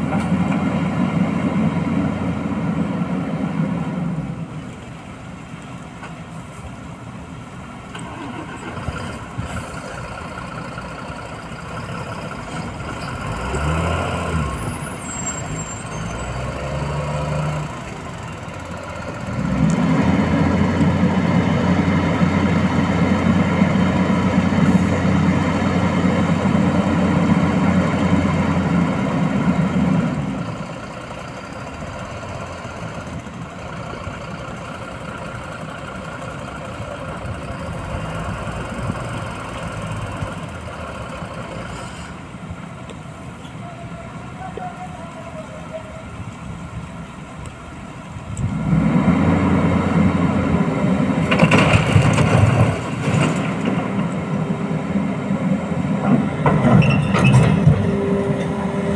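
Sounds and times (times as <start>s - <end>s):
diesel engines running: 0.0s - 58.9s.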